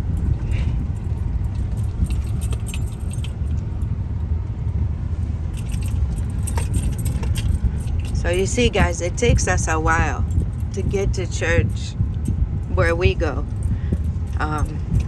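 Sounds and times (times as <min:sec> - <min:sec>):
loose things rattling in car: 0:00.0 - 0:04.0, 0:04.7 - 0:15.0
car rumbling over bumpy road: 0:00.0 - 0:15.0.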